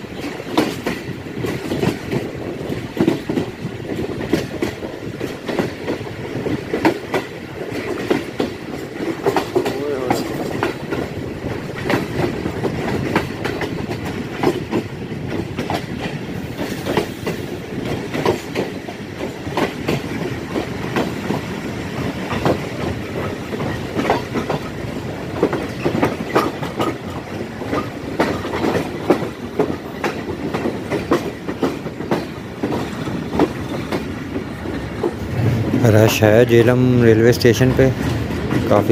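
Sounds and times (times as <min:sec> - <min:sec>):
train rumbling on track: 0:00.0 - 0:38.9
wheels clacking over rail joints: 0:00.0 - 0:38.9.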